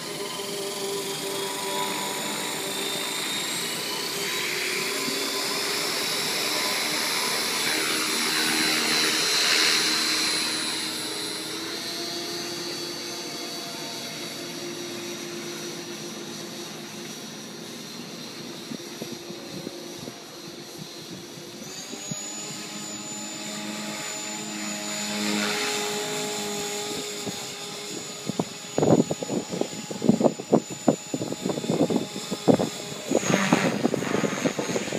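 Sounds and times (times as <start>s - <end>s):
rc helicopter rotor whine: 0.0s - 34.9s.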